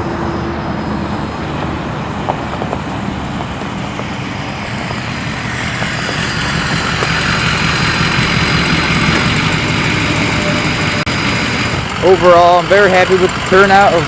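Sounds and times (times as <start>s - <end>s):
diesel engine rumble: 0.0s - 14.0s.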